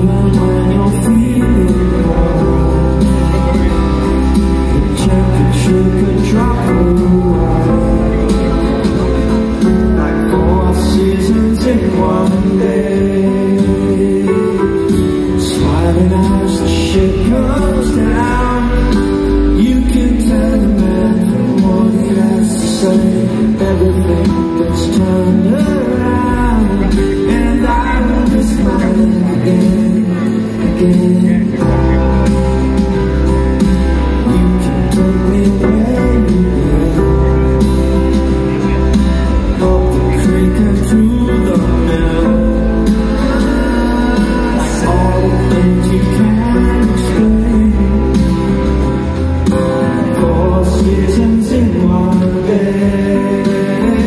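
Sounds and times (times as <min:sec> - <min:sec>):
acoustic guitar: 0:00.0 - 0:54.0
drums: 0:00.0 - 0:54.0
electric bass: 0:00.0 - 0:54.0
keyboards: 0:00.0 - 0:54.0
man singing: 0:00.0 - 0:54.0.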